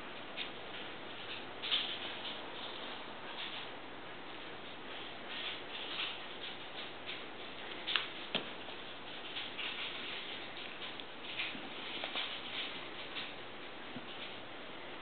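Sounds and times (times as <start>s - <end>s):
cats playing rustling and patter: 0.0s - 15.0s.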